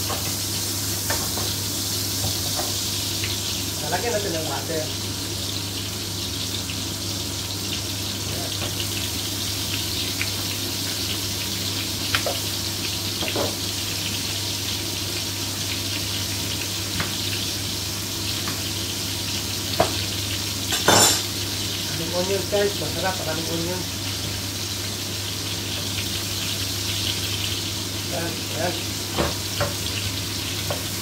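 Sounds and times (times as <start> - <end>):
onions sizzling in a frying pan: 0.0 - 31.0.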